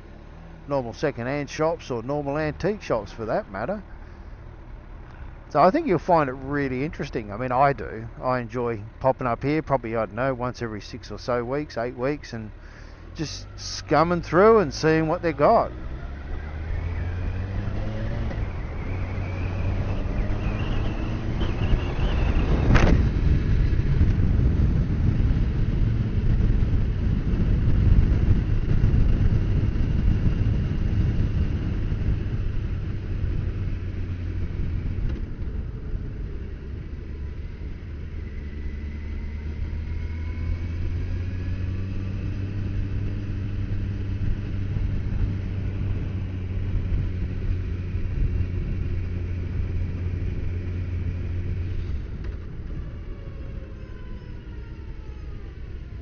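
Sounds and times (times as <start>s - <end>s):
road noise: 0.0s - 56.0s
vehicle engine hum: 0.0s - 56.0s.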